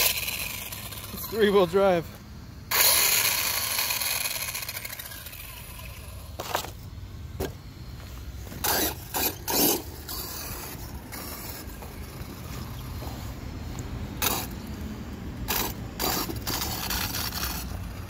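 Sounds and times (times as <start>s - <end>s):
electric motor whirring: 0.0s - 18.0s.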